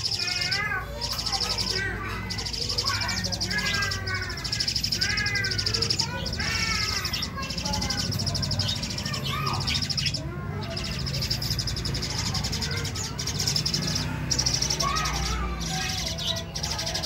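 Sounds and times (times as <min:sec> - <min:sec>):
bird chirps: 0:00.0 - 0:17.0
young birds begging calls: 0:00.0 - 0:17.0.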